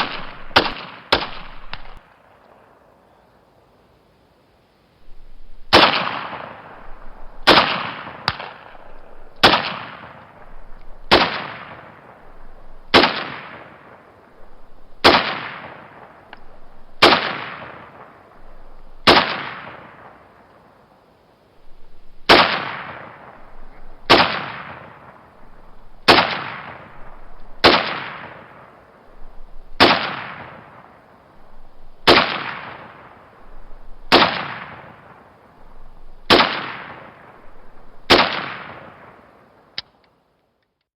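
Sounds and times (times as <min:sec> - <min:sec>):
gunshots with echo: 0:00.0 - 0:02.0, 0:05.7 - 0:20.2, 0:22.2 - 0:30.9, 0:31.6 - 0:39.2.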